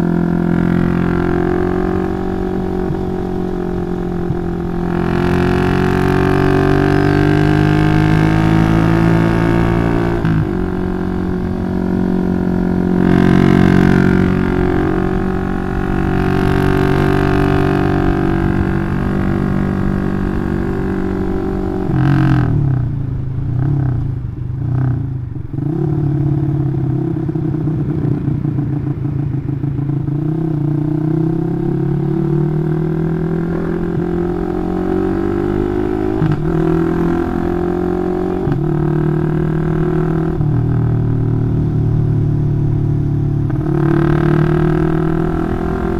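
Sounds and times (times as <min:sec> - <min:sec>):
motorcycle engine: 0:00.0 - 0:45.9.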